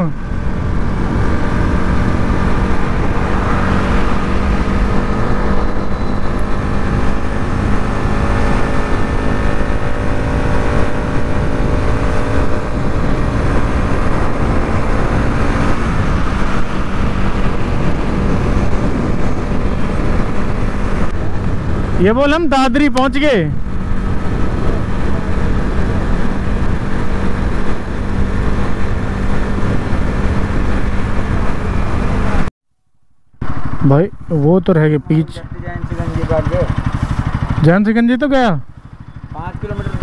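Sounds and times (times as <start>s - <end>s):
motorcycle engine running: 0.0s - 32.5s, 33.3s - 40.0s
wind rushing over microphone: 0.0s - 32.5s, 35.5s - 37.8s.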